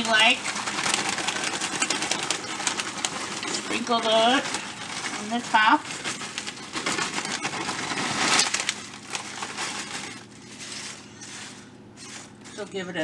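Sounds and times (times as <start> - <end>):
corn chips pouring from a bag: 0.0 - 12.6.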